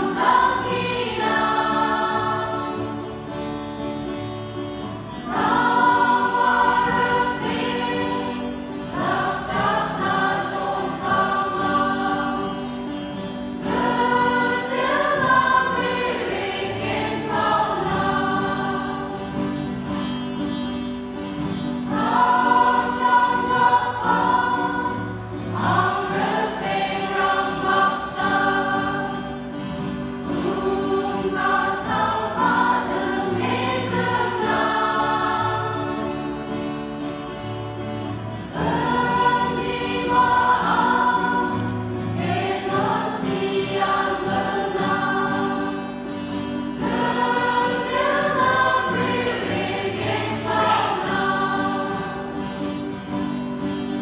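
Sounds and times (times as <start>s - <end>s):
choir singing a hymn: 0.0s - 37.4s, 38.0s - 54.0s.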